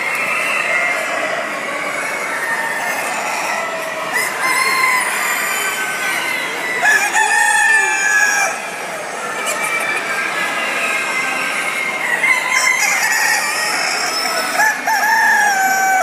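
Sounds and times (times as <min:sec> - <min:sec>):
chickens clucking: 0:00.0 - 0:16.0
roosters crowing: 0:00.1 - 0:08.8, 0:10.7 - 0:16.0.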